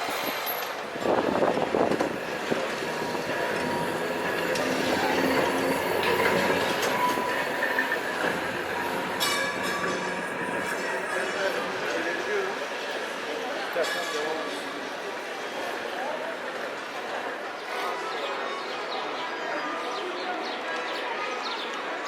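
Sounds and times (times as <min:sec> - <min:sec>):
tram running on rails: 0:00.0 - 0:22.0.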